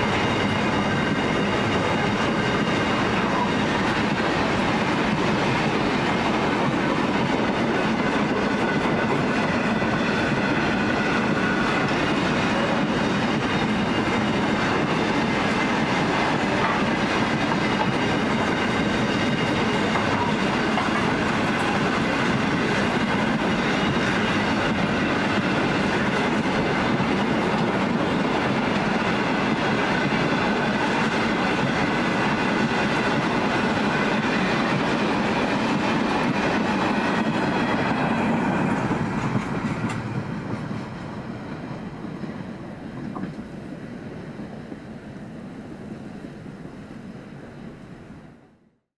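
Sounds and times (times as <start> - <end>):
freight train wheels rumbling: 0.0 - 48.6.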